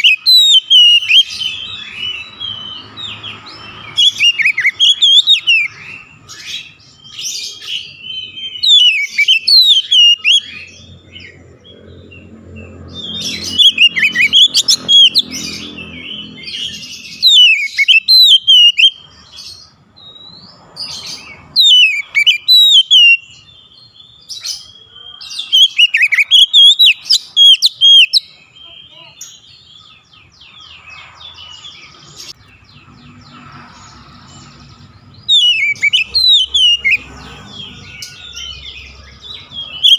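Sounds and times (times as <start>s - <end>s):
bird singing whistles and warbles: 0.0s - 39.9s.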